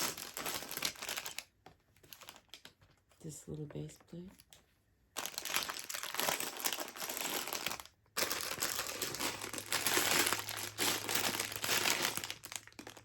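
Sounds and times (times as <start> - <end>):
plastic bags crinkling: 0.0 - 2.8, 5.1 - 13.0.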